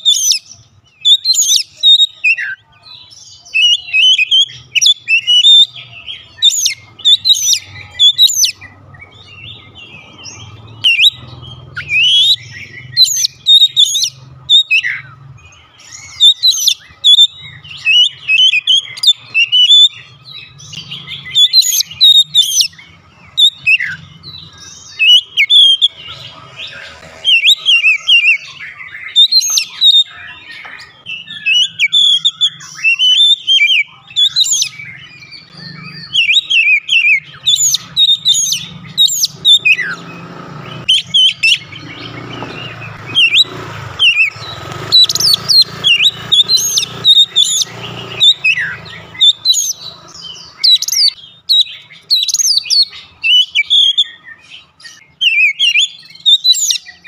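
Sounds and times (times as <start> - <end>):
magpie-robin singing: 0.0 - 57.0.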